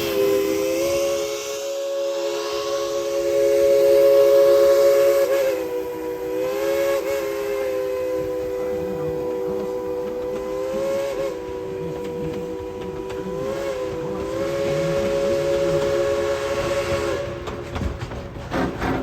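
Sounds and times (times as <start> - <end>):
steam locomotive chime whistle: 0.0 - 17.8
steam hiss: 0.0 - 19.0.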